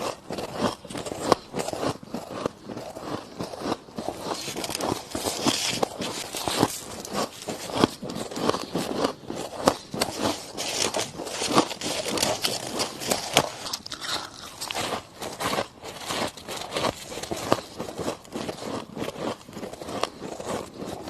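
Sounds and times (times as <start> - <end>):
crushed ice being chewed: 0.0 - 21.0.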